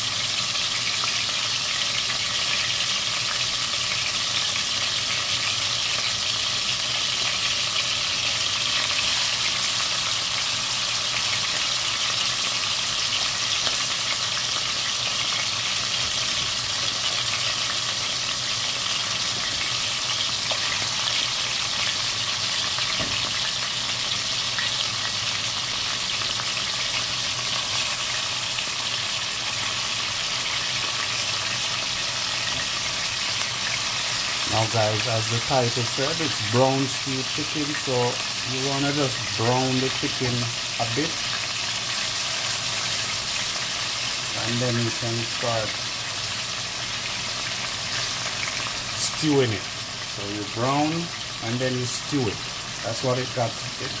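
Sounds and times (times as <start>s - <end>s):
chicken sizzling in oil: 0.0s - 54.0s.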